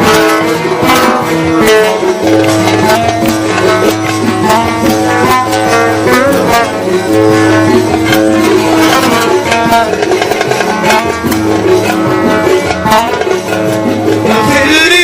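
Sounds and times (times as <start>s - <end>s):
plucked string instrument melody: 0.0s - 15.0s
sharp percussive strikes: 0.0s - 15.0s.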